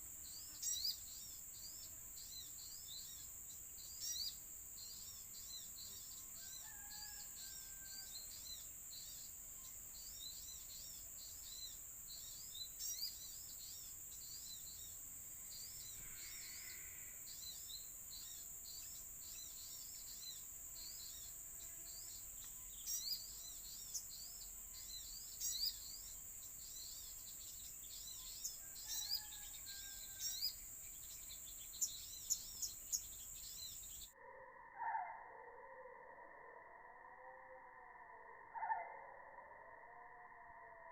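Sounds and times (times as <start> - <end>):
small birds chirping: 0.0 - 34.2
high insect drone: 0.0 - 35.0.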